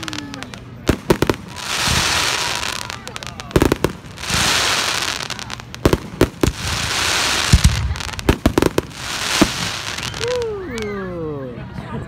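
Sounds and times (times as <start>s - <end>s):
fireworks bangs: 0.0s - 11.0s
fireworks crackling hiss: 0.0s - 11.0s.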